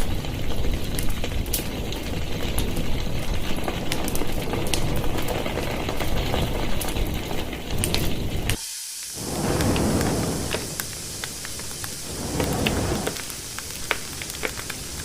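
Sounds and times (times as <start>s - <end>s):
fire crackles: 0.0s - 15.0s
fire rumbling: 0.0s - 15.0s.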